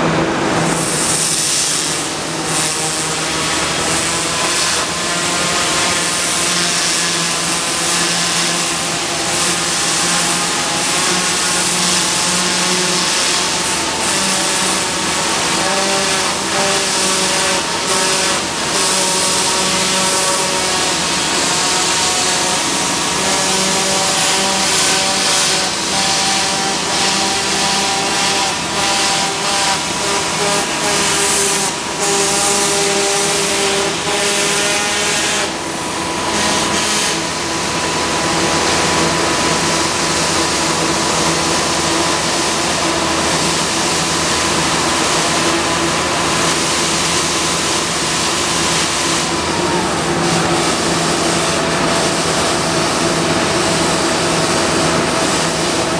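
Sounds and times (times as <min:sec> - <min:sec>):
high-pressure water jet hissing: 0:00.0 - 0:55.9
machinery whine: 0:00.0 - 0:55.9.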